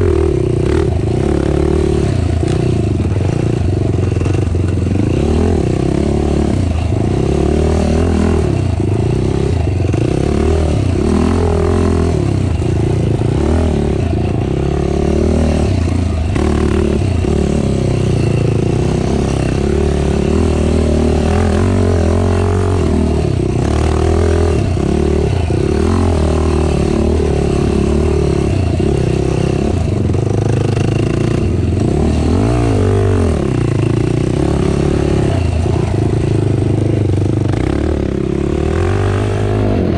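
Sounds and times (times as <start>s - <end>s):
racing quad engine revving: 0.0s - 39.9s.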